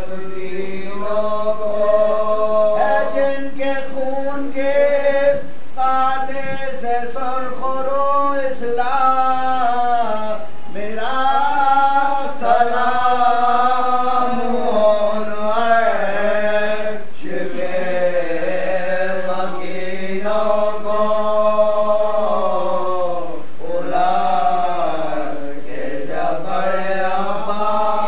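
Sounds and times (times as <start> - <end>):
men chanting unaccompanied: 0.0 - 28.0.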